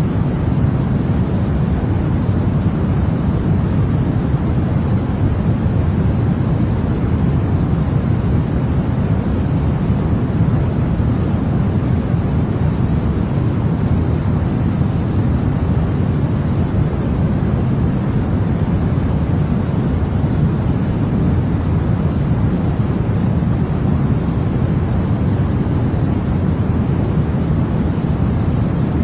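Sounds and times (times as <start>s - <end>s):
deep white noise: 0.0s - 29.0s.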